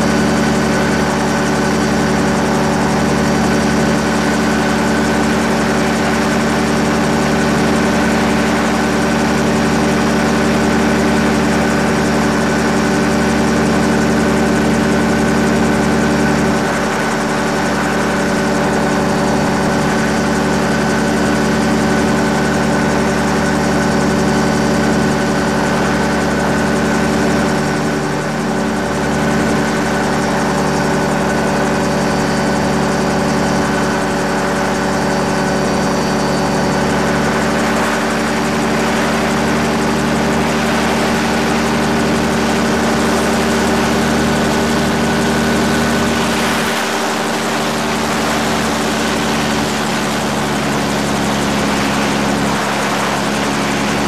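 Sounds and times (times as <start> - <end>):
aircraft engine and propeller drone: 0.0 - 54.0.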